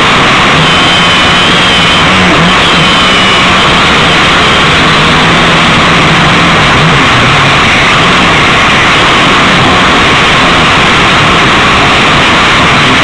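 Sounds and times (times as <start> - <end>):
drone propellers whirring: 0.0 - 13.0
faint high whine: 0.0 - 13.0.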